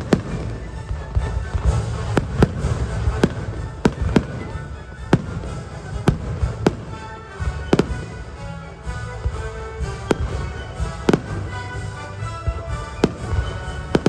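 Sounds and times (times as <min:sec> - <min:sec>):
fireworks bangs: 0:00.0 - 0:14.0
music soundtrack: 0:00.0 - 0:14.0.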